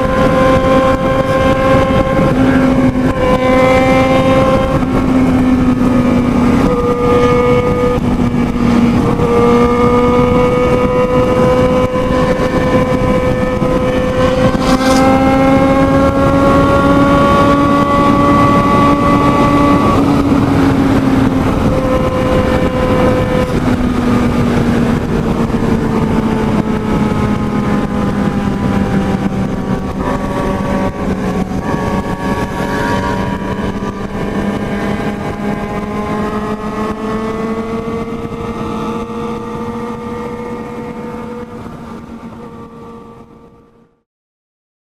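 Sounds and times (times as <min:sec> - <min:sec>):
wind rushing: 0:00.0 - 0:43.4
motorcycle engine at high speed: 0:00.0 - 0:44.0.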